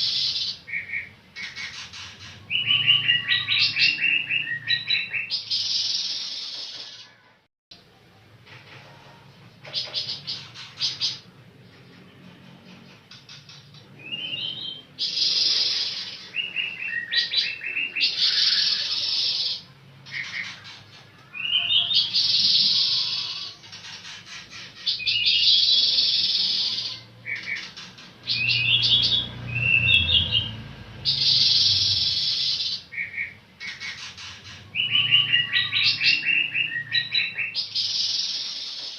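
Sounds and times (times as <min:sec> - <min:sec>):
songbird chirping and trilling: 0:00.0 - 0:07.4, 0:09.6 - 0:38.9.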